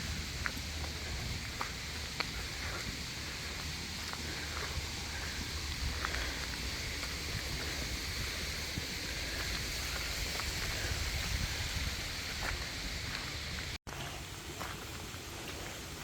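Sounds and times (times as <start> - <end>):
forest stream rushing: 0.0 - 16.0.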